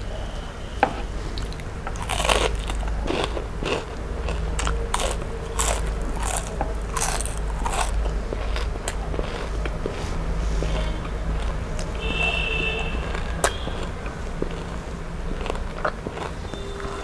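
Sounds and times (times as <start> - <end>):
crunchy chewing of fried fish: 1.0 - 17.0.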